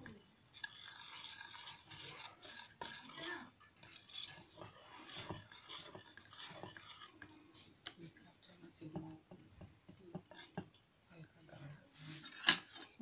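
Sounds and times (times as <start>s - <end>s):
whisk beating batter in steel bowl: 0.0s - 13.0s.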